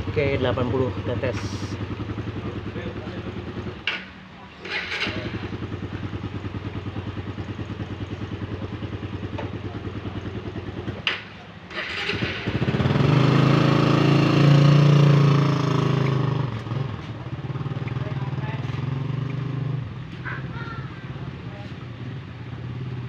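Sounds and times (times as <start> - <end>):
engine puttering: 0.0 - 23.0.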